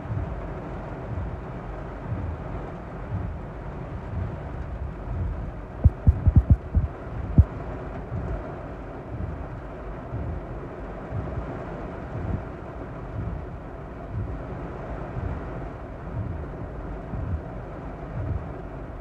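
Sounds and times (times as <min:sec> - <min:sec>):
heavy rain on car roof: 0:00.0 - 0:19.0
low uneven rumble: 0:00.0 - 0:19.0.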